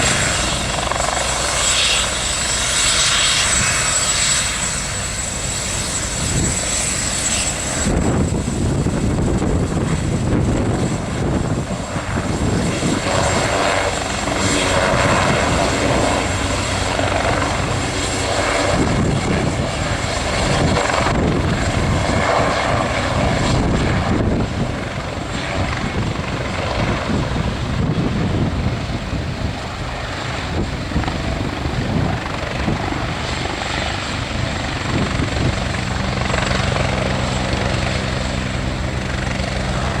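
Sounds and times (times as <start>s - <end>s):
helicopter rotor and engine: 0.0s - 40.0s.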